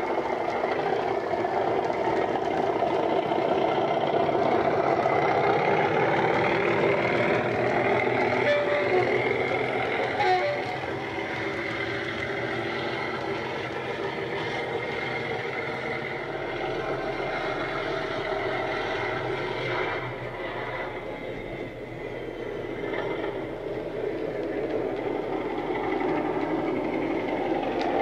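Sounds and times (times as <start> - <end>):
model diesel engine drone: 0.0 - 28.0.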